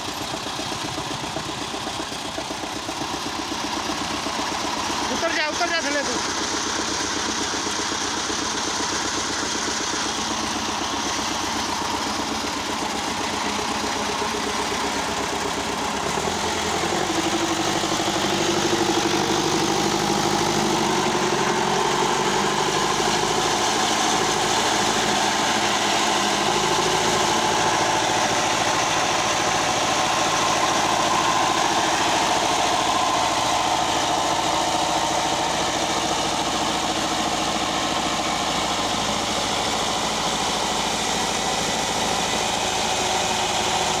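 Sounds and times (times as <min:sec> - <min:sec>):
diesel tractor engine running: 0:00.0 - 0:44.0.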